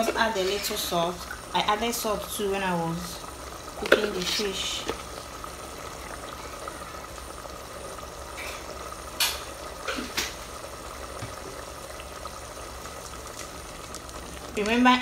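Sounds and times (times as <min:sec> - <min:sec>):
sauce bubbling in a pot: 0:00.0 - 0:15.0.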